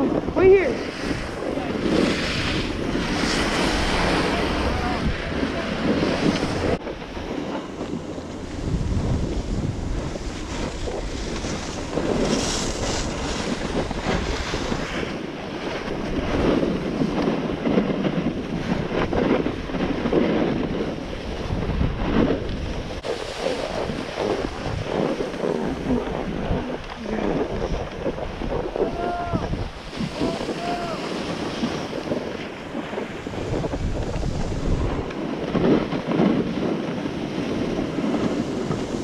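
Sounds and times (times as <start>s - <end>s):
skis scraping over snow: 0.0s - 39.0s
wind buffeting microphone: 0.0s - 39.0s.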